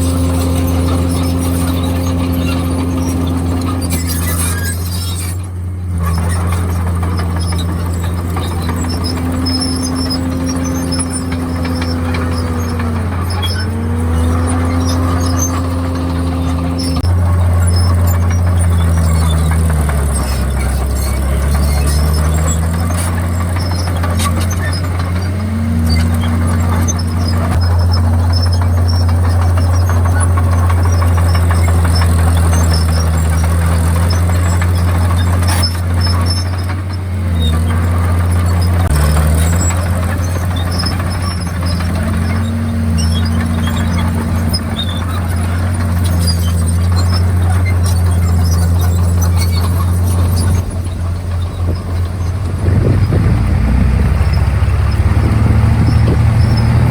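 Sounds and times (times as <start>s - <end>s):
bulldozer diesel engine working: 0.0s - 56.9s.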